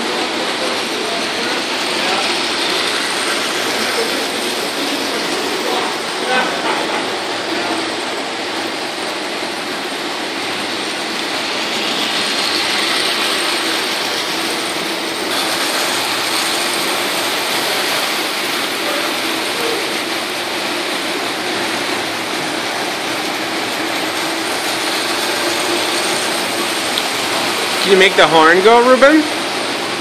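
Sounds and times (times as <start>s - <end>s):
model trains whirring and clattering: 0.0s - 30.0s.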